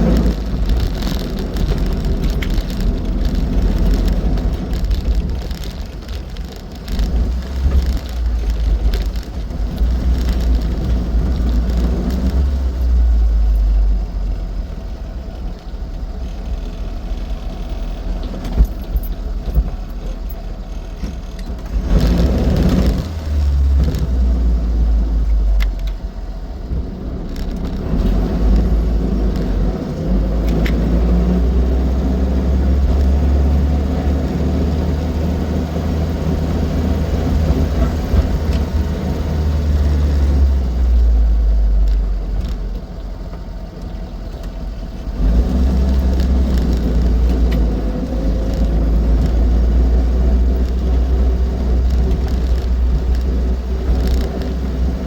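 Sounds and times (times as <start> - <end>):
road noise: 0.0 - 55.0
small car engine rumbling: 0.0 - 55.0.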